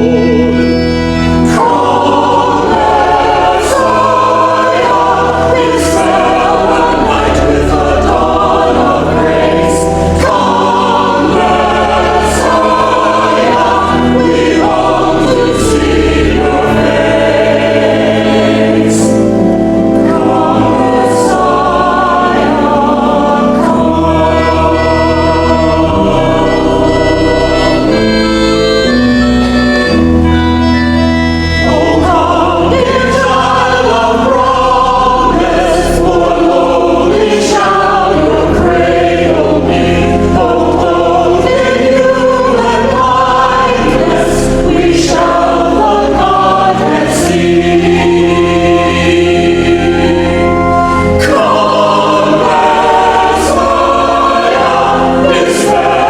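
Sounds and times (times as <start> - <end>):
choir singing: 0.0 - 56.0
sustained bass notes: 0.0 - 56.0.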